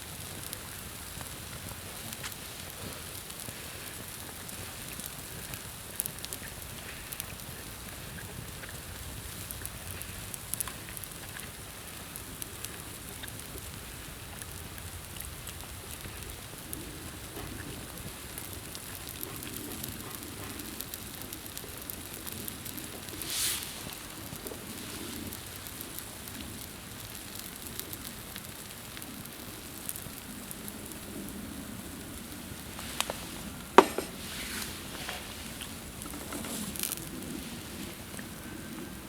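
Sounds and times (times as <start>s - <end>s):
fire flaring with rushing hiss: 0.0s - 39.0s
wood campfire crackling: 0.0s - 39.0s.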